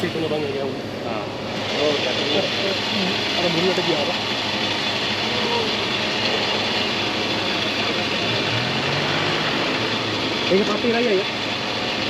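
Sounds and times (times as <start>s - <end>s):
off-road vehicle engine and tyres: 0.0s - 12.0s.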